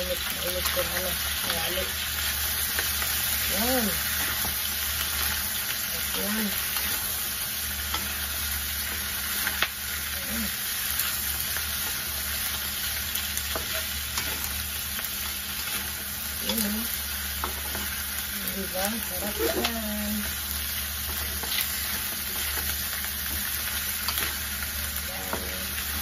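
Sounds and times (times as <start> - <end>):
food sizzling in oil in a wok: 0.0 - 26.0.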